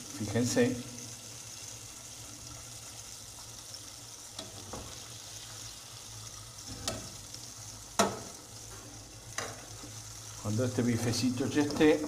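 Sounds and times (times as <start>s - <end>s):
liver sizzling in hot oil: 0.0s - 12.0s.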